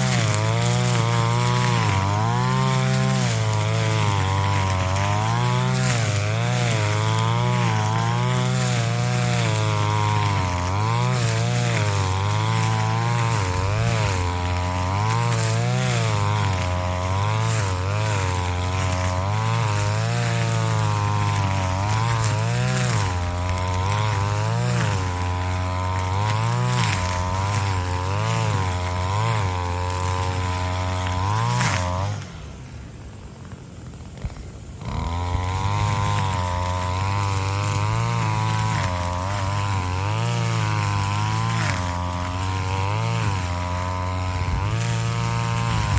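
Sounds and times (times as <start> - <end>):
brush cutter engine running: 0.0 - 45.9.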